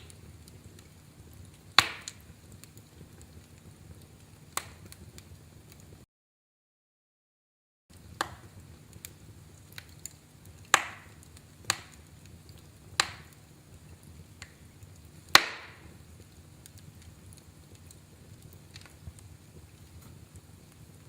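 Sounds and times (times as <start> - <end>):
wood fire crackling and popping: 0.0 - 6.0, 7.9 - 21.0.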